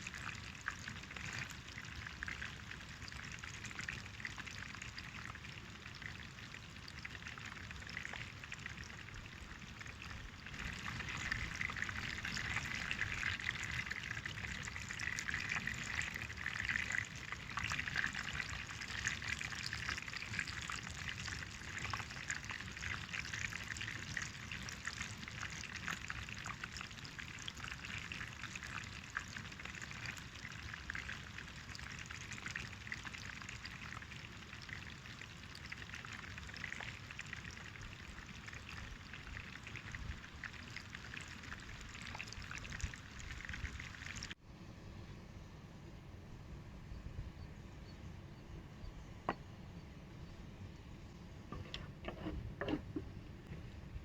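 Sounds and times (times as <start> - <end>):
hot oil sizzling and crackling: 0.0 - 44.4.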